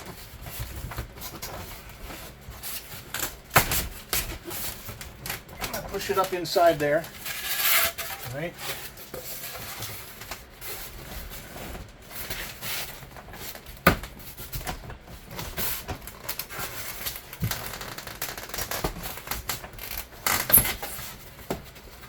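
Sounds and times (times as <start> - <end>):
foam board rubbing and scraping: 0.0 - 22.0.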